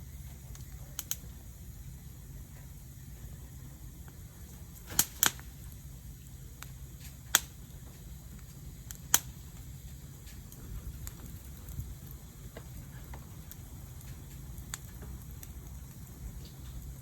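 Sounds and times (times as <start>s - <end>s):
low steady background noise: 0.0s - 17.0s
wood fire popping: 0.0s - 17.0s.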